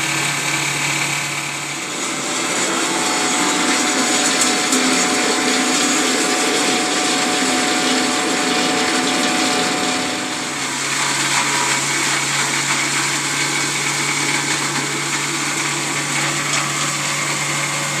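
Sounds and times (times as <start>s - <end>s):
chopper machine whirring: 0.0s - 18.0s.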